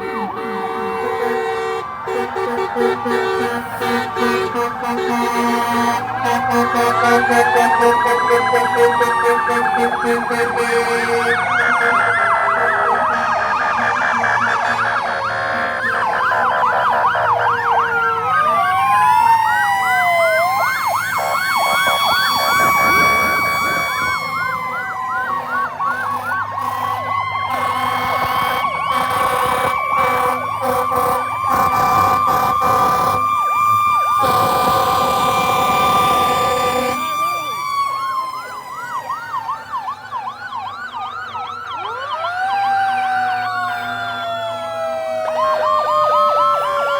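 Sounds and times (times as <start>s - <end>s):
siren steady tone: 0.0s - 46.9s
siren yelp: 0.0s - 46.9s
sirens wailing: 0.0s - 46.9s.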